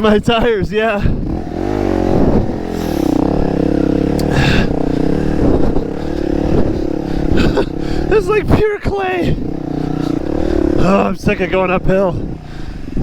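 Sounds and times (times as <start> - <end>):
dirt bike engine revving: 1.0 - 13.0.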